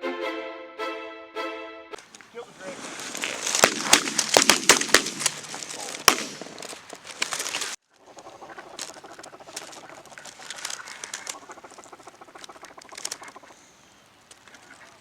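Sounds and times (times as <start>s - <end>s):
ducks flapping wings and calling: 2.0s - 15.0s.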